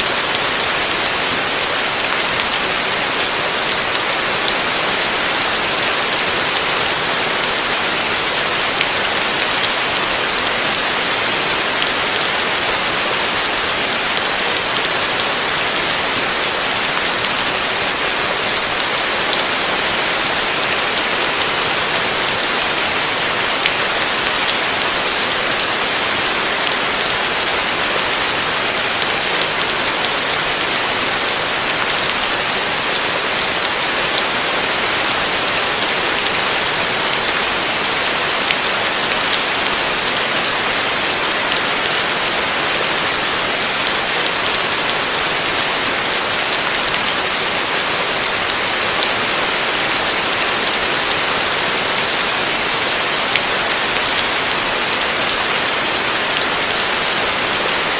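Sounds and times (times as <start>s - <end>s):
heavy rain on a roof: 0.0s - 57.9s.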